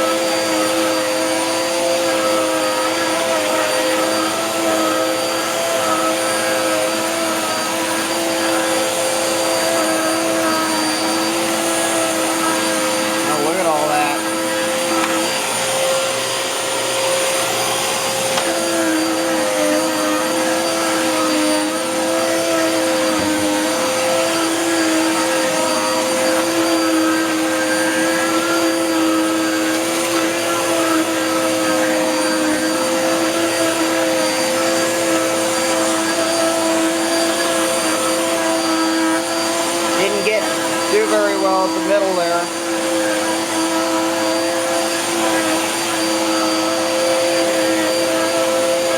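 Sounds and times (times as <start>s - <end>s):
lower vacuum tone: 0.0s - 48.9s
vacuum cleaner motor whine: 0.0s - 48.9s.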